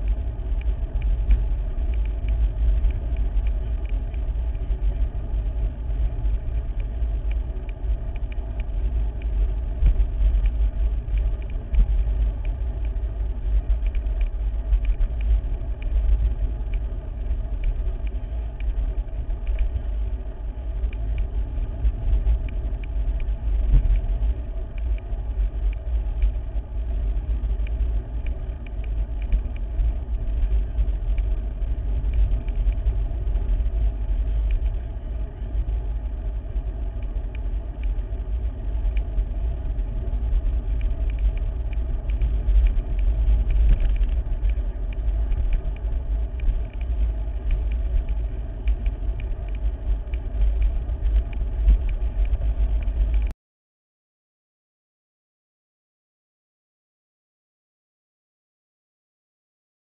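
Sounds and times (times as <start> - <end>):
wind buffeting microphone: 0.0 - 53.3.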